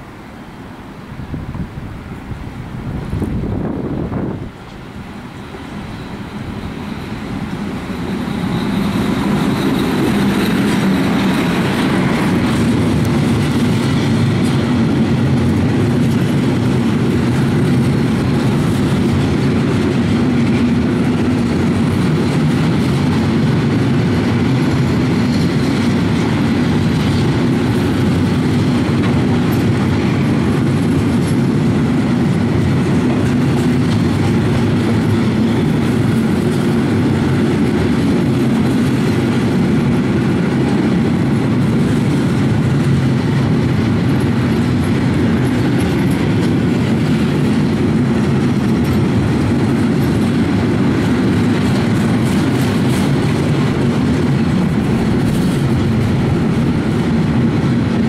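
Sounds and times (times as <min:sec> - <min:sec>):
electric locomotive passing: 0:00.0 - 0:58.0
freight wagons rumbling: 0:02.9 - 0:58.0
wheels clattering on rails: 0:02.9 - 0:58.0.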